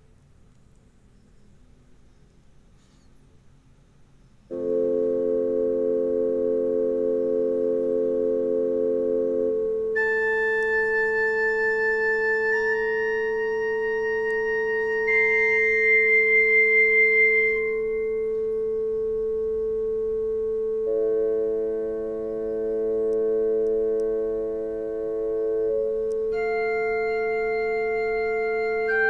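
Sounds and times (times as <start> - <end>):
keyboard playing slow held notes: 4.5 - 29.0.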